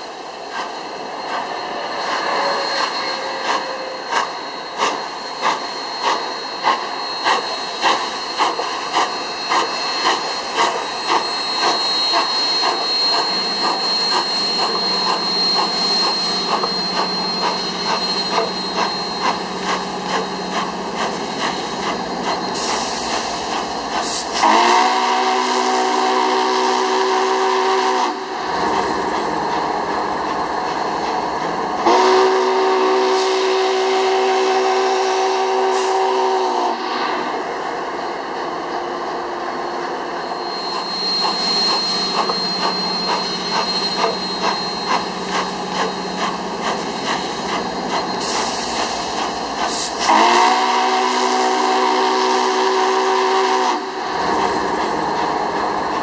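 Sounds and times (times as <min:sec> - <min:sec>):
locomotive chime whistle: 0:00.0 - 0:37.3, 0:37.9 - 0:56.0
steam locomotive hiss and chuffs: 0:00.0 - 0:56.0.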